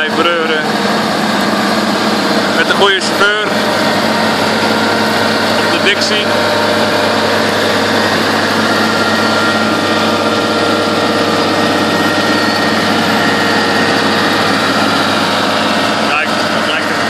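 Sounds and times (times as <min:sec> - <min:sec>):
harvester machinery running: 0:00.0 - 0:17.0
high machine whines: 0:00.0 - 0:17.0.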